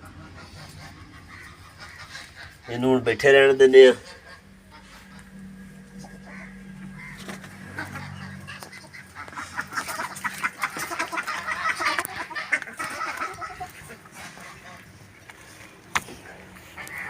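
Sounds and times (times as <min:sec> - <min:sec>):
waterfowl calling: 0:00.0 - 0:15.6, 0:16.6 - 0:17.0
low steady hum: 0:00.0 - 0:17.0.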